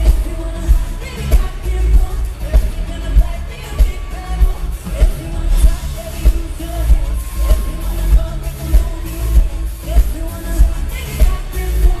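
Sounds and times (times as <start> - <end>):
heavy bass beat: 0.0 - 12.0
woman singing into microphone: 0.0 - 12.0.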